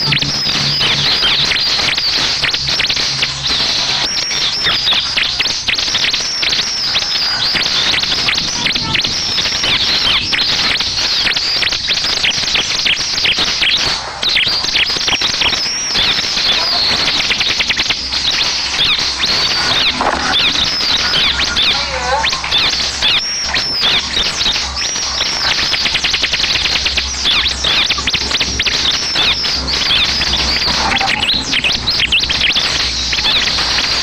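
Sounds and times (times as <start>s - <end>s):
bird song rapid high chirps: 0.0s - 34.0s.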